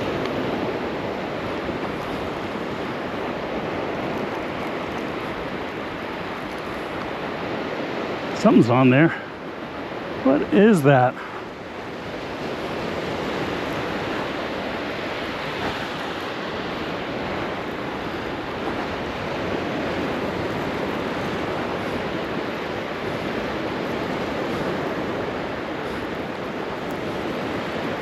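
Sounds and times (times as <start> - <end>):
surf breaking on beach: 0.0 - 28.0.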